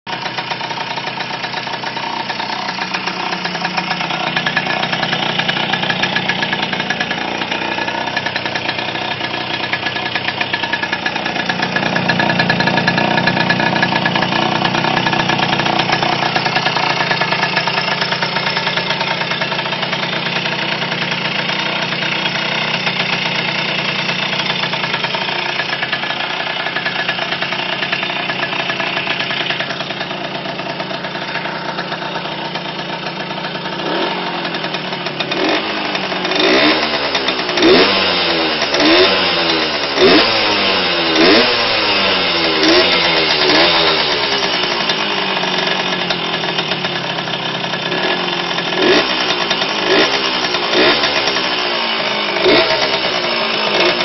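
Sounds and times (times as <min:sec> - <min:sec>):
two-stroke engine running: 0:00.1 - 0:54.0.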